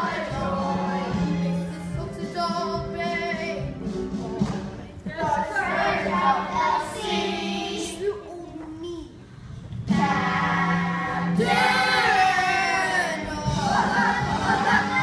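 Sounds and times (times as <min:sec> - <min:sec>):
children singing together: 0:00.0 - 0:08.2, 0:09.9 - 0:15.0.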